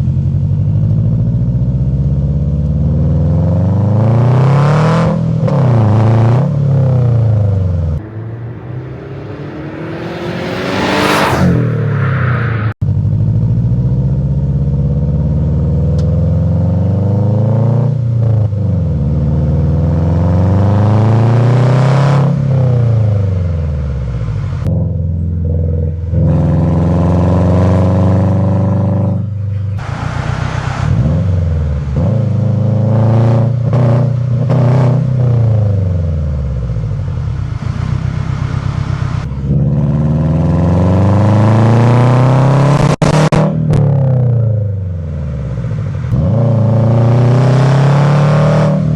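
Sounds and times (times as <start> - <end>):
car engine revving hard: 2.8 - 12.8, 15.0 - 23.5, 26.0 - 29.2, 29.8 - 48.9.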